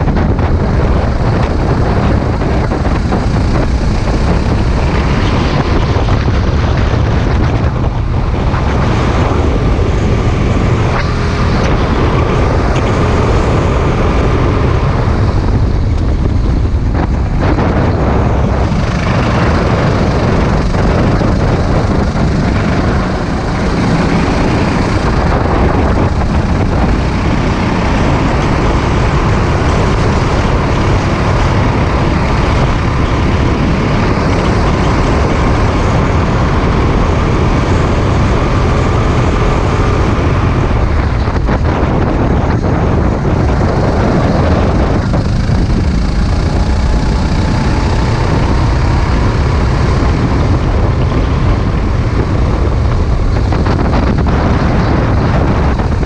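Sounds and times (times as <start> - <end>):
kart engine running hard: 0.0 - 56.0
wind rush over microphone: 0.0 - 56.0.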